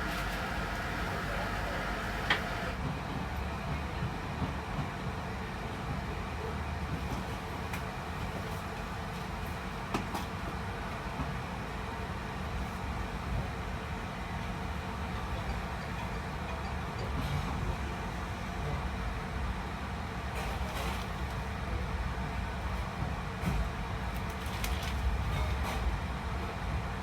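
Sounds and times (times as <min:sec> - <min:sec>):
train rumble and rail noise: 0:00.0 - 0:27.0.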